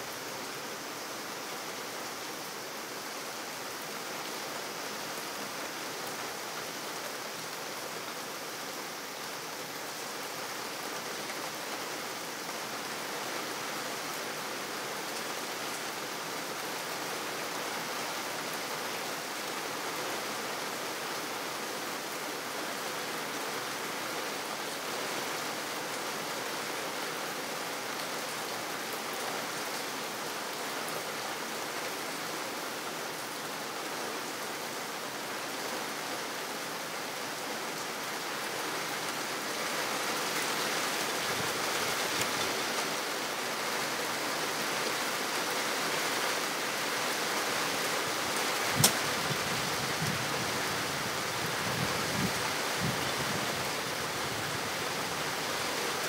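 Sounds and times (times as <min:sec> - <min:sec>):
rain on wet pavement: 0:00.1 - 0:56.0.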